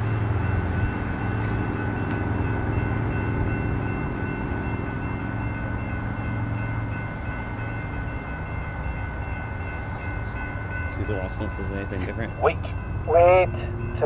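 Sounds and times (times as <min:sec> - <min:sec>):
train engine hum: 0:00.0 - 0:14.0.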